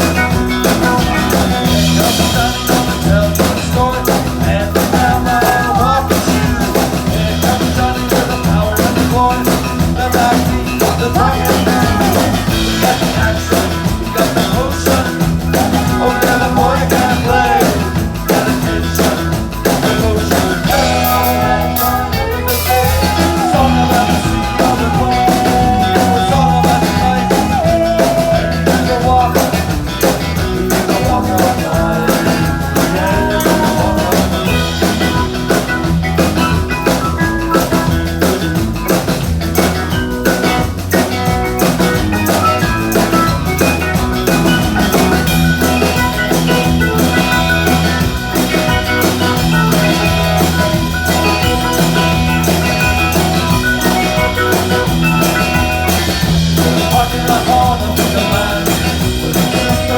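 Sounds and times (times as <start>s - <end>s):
drum kit beat: 0.0s - 59.9s
live rock band playing: 0.0s - 59.9s.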